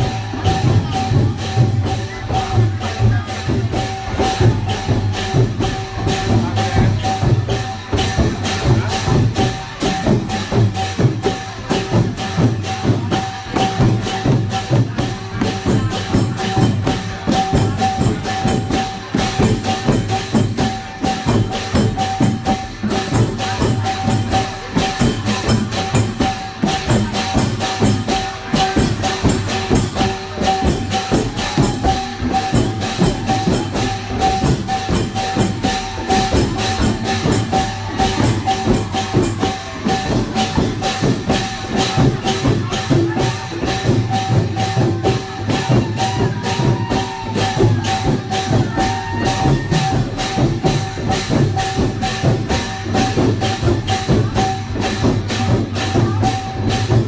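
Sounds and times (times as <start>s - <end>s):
fast even drumming: 0.0s - 57.0s
jingling hand percussion: 0.0s - 57.0s.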